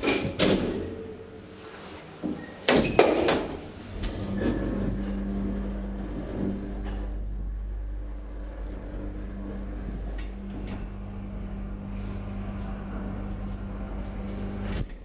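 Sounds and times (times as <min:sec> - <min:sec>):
elevator power unit humming: 0:00.0 - 0:15.0.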